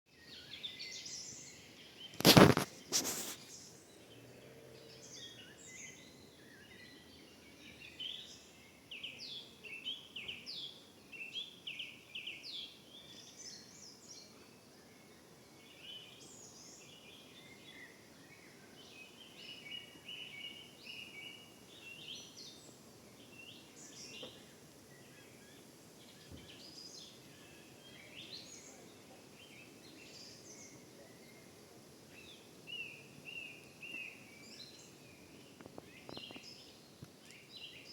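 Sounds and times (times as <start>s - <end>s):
songbirds singing and chirping: 0.1s - 37.9s.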